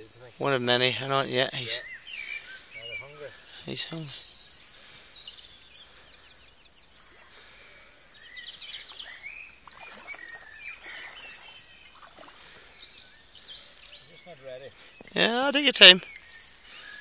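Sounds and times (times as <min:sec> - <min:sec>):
faint background noise: 0:00.0 - 0:17.0
small birds singing: 0:00.0 - 0:17.0.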